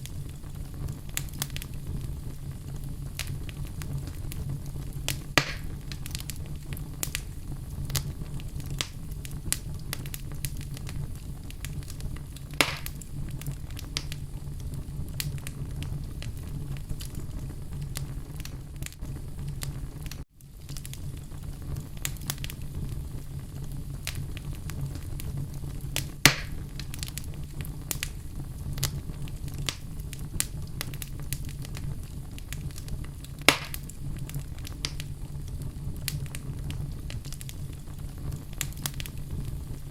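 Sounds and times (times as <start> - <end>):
fire popping: 0.0 - 39.9
fire rumbling and crackling: 0.0 - 39.9.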